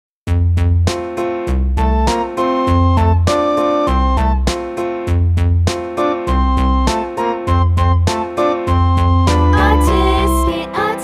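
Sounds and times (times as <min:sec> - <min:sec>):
upbeat electronic music: 0:00.3 - 0:11.0.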